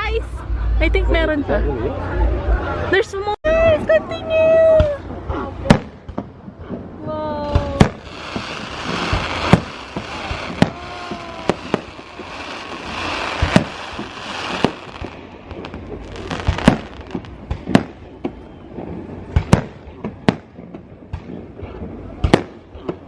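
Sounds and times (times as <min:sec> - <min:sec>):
fireworks bangs: 0:03.6 - 0:23.0
fireworks crackling: 0:03.6 - 0:23.0.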